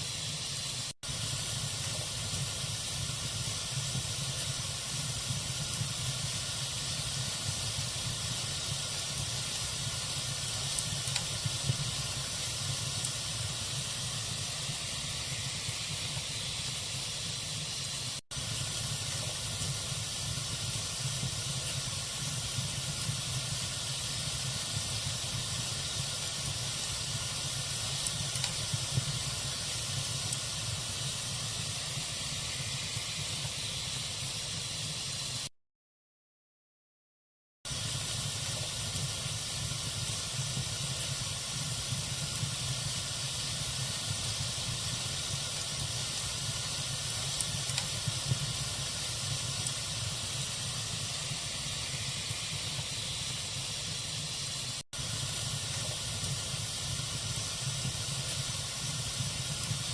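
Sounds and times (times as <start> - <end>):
log fire crackling: 1.0 - 34.5, 37.7 - 59.9.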